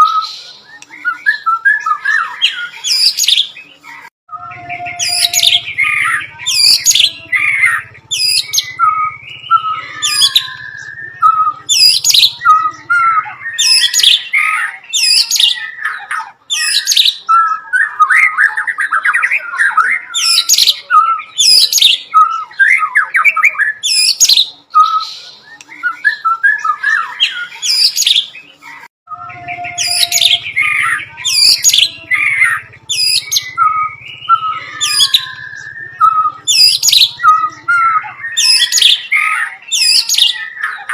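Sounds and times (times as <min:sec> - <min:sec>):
songbird singing sharp high notes: 0:04.3 - 0:28.3, 0:29.1 - 0:40.9.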